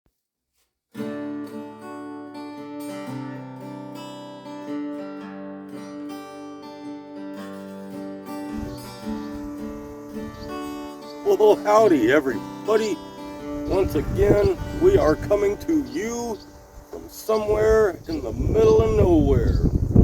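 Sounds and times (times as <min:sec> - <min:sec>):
acoustic guitar strumming: 0:00.9 - 0:20.0.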